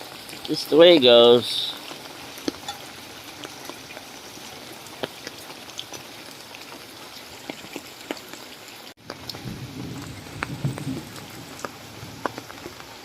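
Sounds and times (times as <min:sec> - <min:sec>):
rain falling: 0:00.0 - 0:13.0
raindrops tapping: 0:00.0 - 0:13.0.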